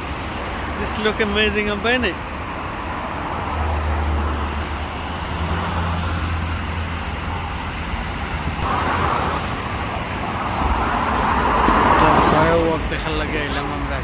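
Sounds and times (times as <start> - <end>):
road traffic noise: 0.0 - 14.0
rushing noise: 0.0 - 14.0
vehicle engine humming: 0.0 - 14.0.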